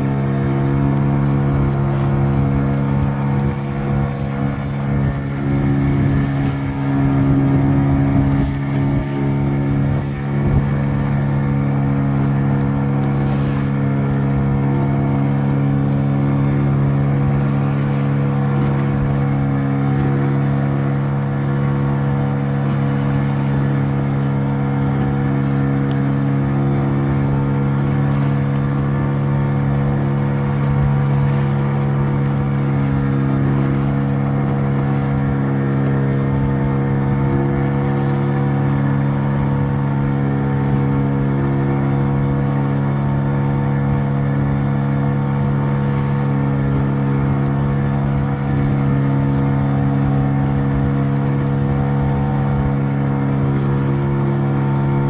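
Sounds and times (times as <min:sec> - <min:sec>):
boat motor droning: 0:00.0 - 0:55.0
water rushing along hull: 0:00.0 - 0:55.0.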